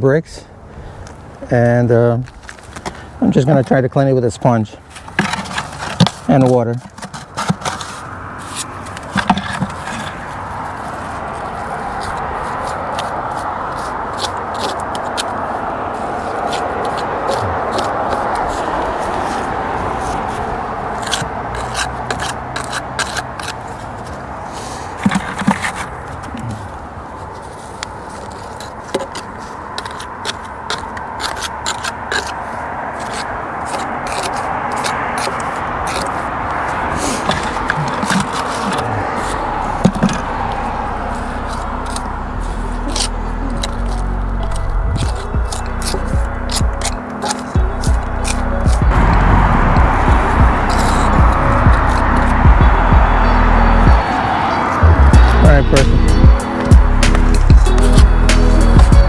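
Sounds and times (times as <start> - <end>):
trowel scraping mortar: 4.9 - 52.4, 55.2 - 59.0
steady background rush: 8.0 - 59.0.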